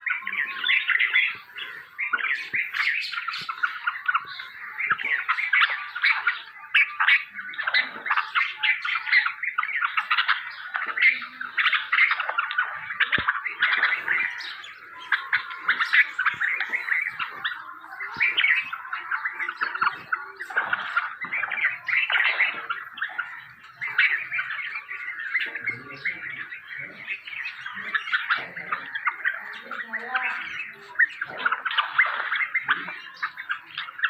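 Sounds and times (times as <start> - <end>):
young birds chirping and squawking: 0.0 - 34.0.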